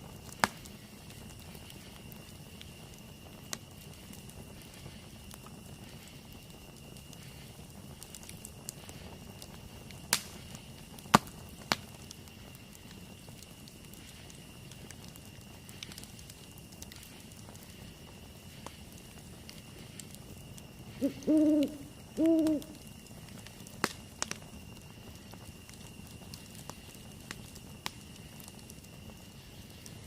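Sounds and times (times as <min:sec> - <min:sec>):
campfire crackling: 0:00.0 - 0:30.0
sharp pops from fire: 0:00.0 - 0:30.0.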